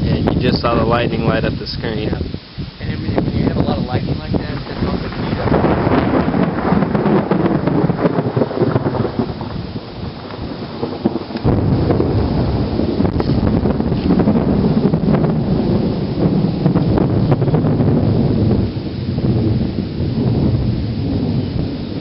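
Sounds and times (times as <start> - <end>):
thunder rumbling: 0.0 - 22.0
wind buffeting microphone: 0.0 - 22.0.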